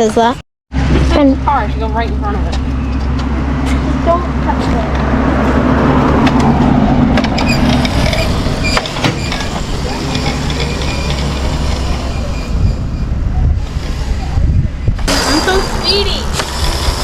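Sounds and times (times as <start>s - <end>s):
riding lawnmower engine: 0.7s - 17.0s.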